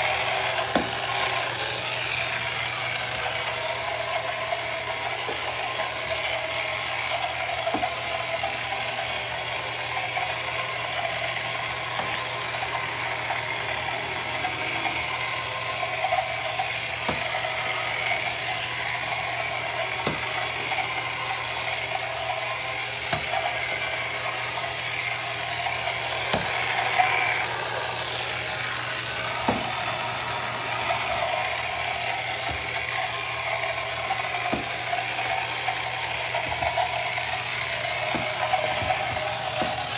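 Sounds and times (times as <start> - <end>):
small electric motor whirring: 0.0 - 39.9.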